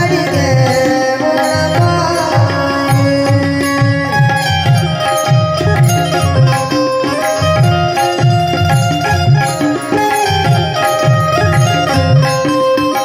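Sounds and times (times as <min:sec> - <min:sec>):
banjo melody notes: 0:00.0 - 0:13.0
tabla playing: 0:00.0 - 0:13.0.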